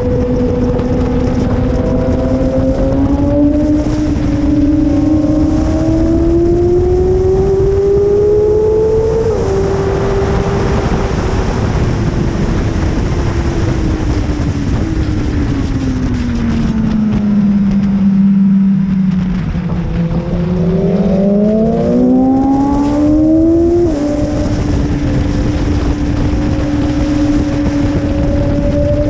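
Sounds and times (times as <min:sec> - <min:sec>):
motorcycle engine revving: 0:00.0 - 0:29.0
wind noise: 0:00.0 - 0:29.0.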